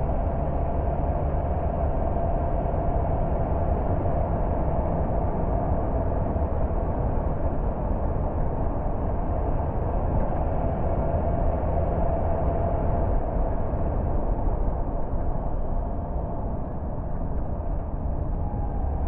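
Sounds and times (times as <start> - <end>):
car engine and road noise: 0.0 - 19.0
faint steady hum: 0.0 - 19.0.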